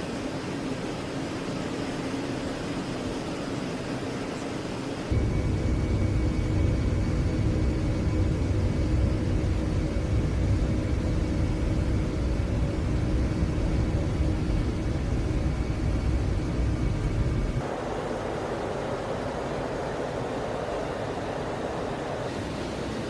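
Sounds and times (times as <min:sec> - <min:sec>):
faint engine whine: 0:00.0 - 0:23.0
jet engines rumbling: 0:00.0 - 0:23.0.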